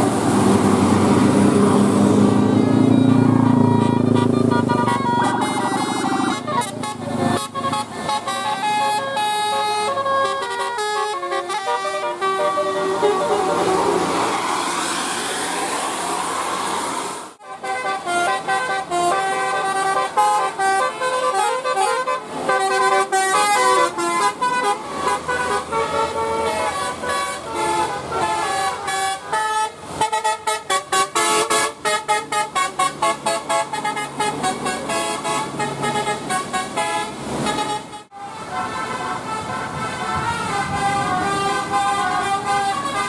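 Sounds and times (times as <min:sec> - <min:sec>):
multi-tone bus horn melody: 0:00.8 - 0:14.4, 0:17.4 - 0:43.0.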